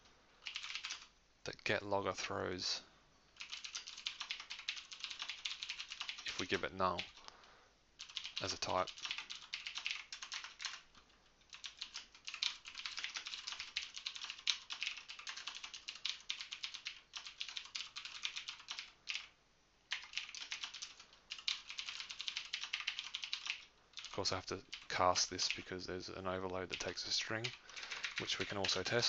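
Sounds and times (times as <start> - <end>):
typing on computer keyboard: 0.4 - 1.1, 3.4 - 7.3, 8.0 - 19.3, 19.9 - 25.7, 26.7 - 29.0.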